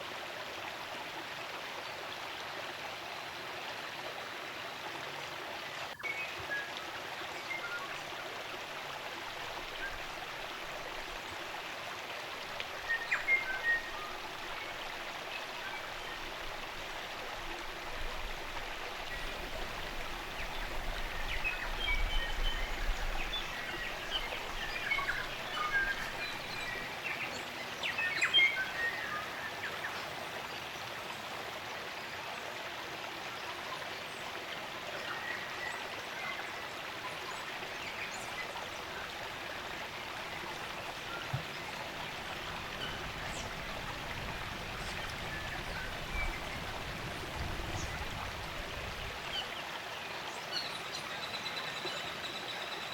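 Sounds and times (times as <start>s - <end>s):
stream running water: 0.0s - 52.9s.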